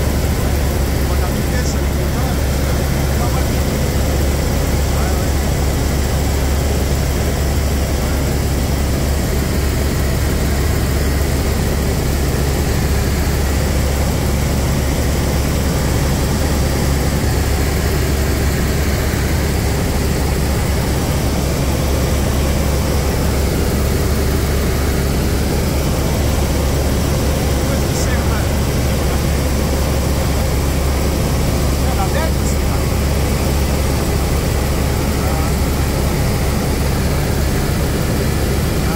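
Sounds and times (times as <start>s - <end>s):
helicopter drone from cabin: 0.0s - 38.9s.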